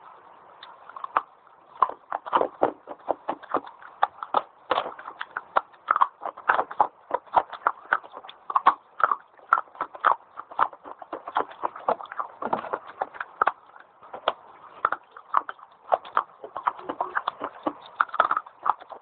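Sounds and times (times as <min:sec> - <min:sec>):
crunchy biting and chewing: 0:00.6 - 0:19.0.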